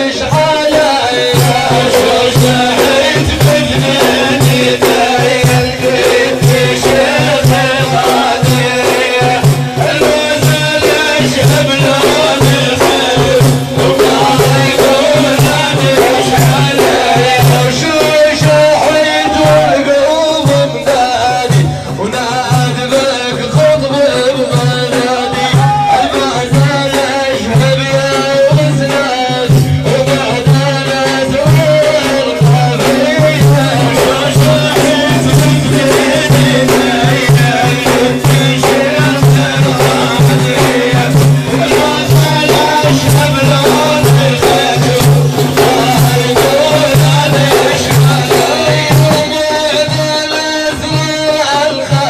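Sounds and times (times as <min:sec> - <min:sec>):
frame drum with jingles: 0:00.0 - 0:52.0
group rhythmic chanting: 0:00.0 - 0:52.0
lead voice singing: 0:00.0 - 0:52.0.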